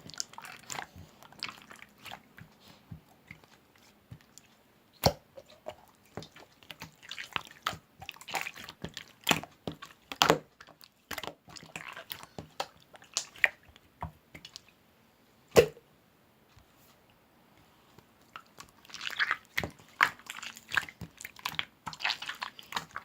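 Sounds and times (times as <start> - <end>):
wet chewing: 0.0 - 13.8, 18.2 - 23.0.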